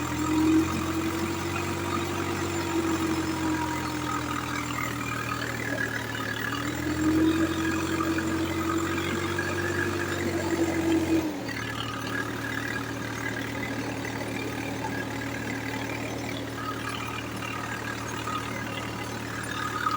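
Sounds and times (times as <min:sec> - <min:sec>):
tractor diesel engine idling: 0:00.0 - 0:19.9.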